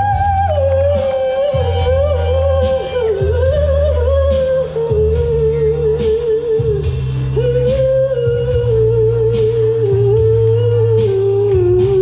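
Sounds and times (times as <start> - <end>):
backing track with bass line: 0.0 - 12.0.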